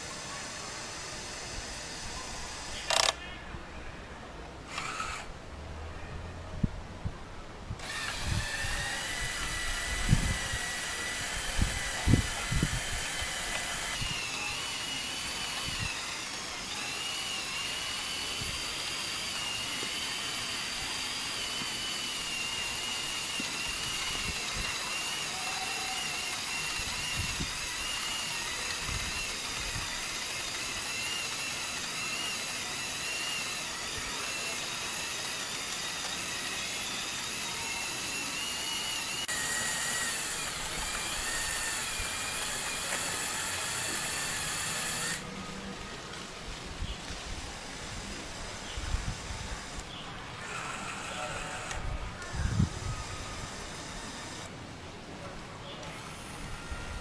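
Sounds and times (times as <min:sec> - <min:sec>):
small electric motors whining: 0:00.0 - 0:03.4, 0:04.6 - 0:05.4, 0:07.8 - 0:54.6, 0:55.7 - 0:57.0.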